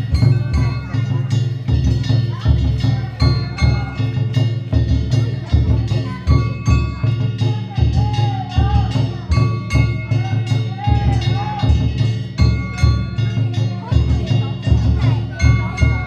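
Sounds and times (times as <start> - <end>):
large drum beating: 0.0 - 16.0.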